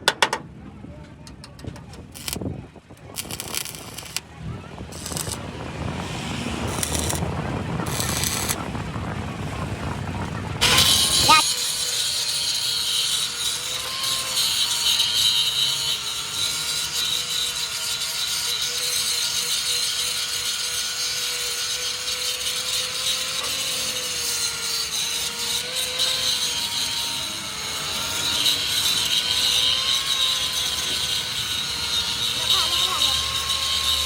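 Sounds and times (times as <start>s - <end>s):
power tool motor whine: 3.2s - 4.2s, 4.9s - 8.6s, 10.6s - 34.0s.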